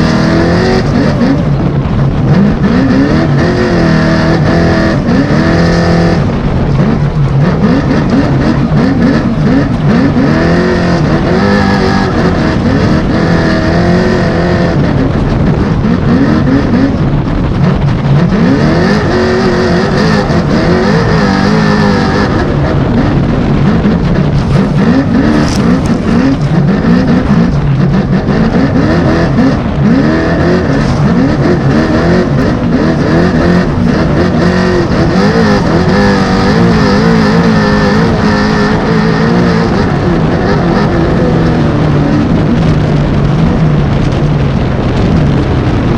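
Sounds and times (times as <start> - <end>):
truck driving hard off-road: 0.0 - 45.9
truck engine revving: 0.0 - 45.9.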